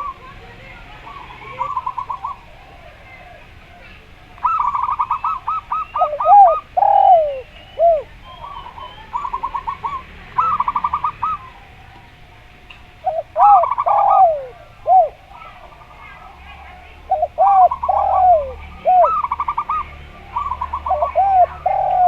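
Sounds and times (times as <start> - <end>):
birds chirping faintly: 0.0 - 22.0
doves cooing: 0.0 - 22.0.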